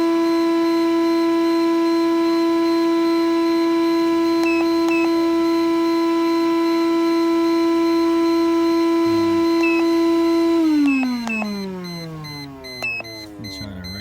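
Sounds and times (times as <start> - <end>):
steady electronic tone: 1.7 - 14.0.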